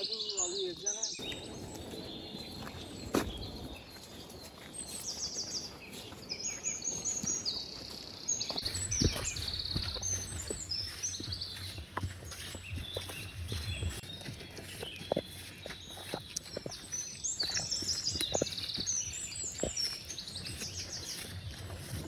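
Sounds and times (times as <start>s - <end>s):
birds trilling and chirping: 0.0s - 22.0s
footsteps on dirt trail: 0.0s - 22.0s.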